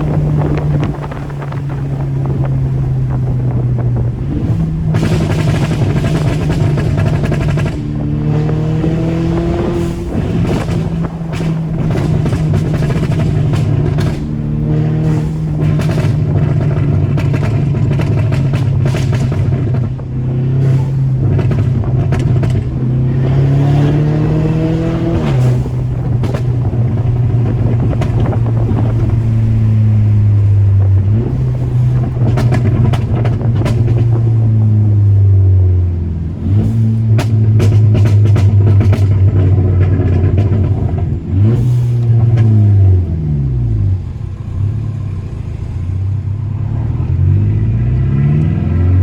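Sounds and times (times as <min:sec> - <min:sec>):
exhaust pops and crackles: 0:00.0 - 0:49.0
turbocharged car engine accelerating: 0:00.0 - 0:49.0.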